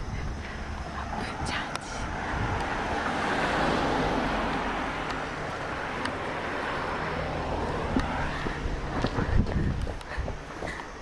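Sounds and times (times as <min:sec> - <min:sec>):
passing vehicle road noise: 0:00.0 - 0:11.0.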